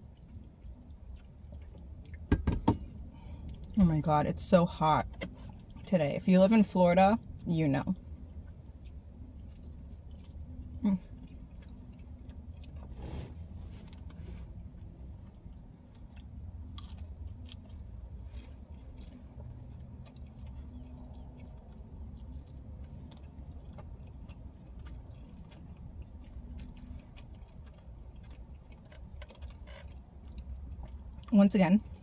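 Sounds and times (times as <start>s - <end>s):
person chewing pizza: 0.0s - 3.8s, 7.3s - 32.0s
steady low hum: 0.0s - 32.0s.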